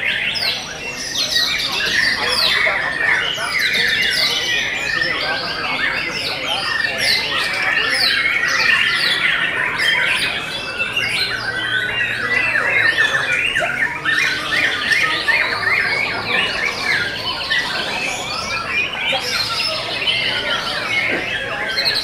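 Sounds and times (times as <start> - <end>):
birds singing whistles and trills: 0.0 - 22.0.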